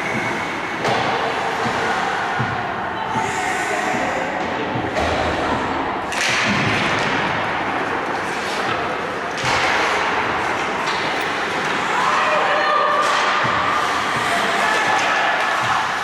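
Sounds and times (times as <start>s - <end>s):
puck and bodies thudding boards: 0.0s - 3.3s, 4.4s - 12.2s, 12.8s - 16.0s.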